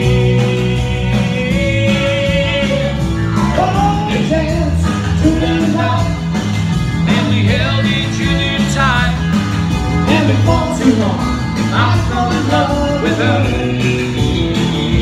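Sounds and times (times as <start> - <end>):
man singing: 0.0 - 6.4, 7.0 - 9.4, 10.0 - 15.0
live band playing: 0.0 - 15.0.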